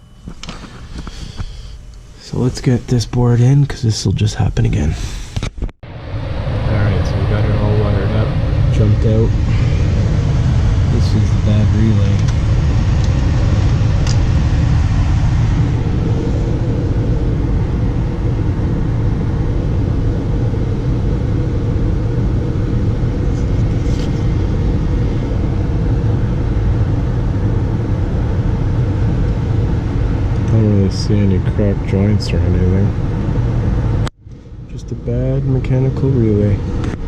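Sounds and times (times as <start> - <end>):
furnace humming and rumbling: 0.0 - 37.0.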